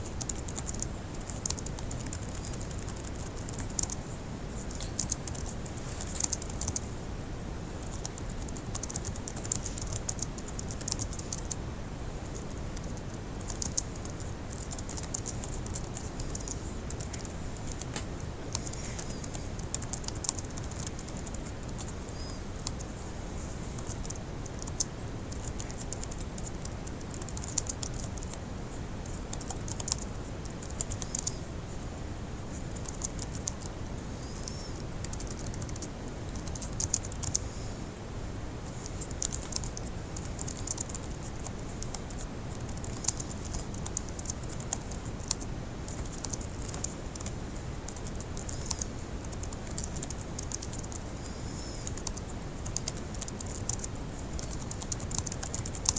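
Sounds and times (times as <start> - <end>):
fast typing on laptop keyboard: 0.0 - 4.0, 4.7 - 6.9, 7.8 - 11.6, 12.3 - 22.9, 23.8 - 28.4, 29.3 - 31.4, 32.7 - 33.7, 34.4 - 37.4, 38.7 - 51.0, 51.6 - 55.9.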